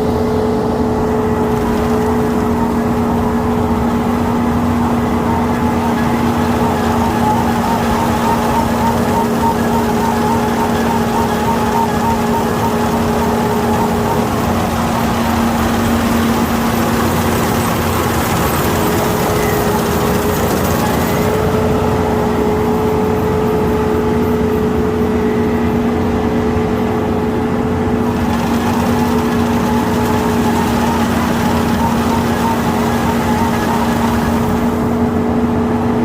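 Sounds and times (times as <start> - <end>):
combine harvester engine droning: 0.0 - 36.0.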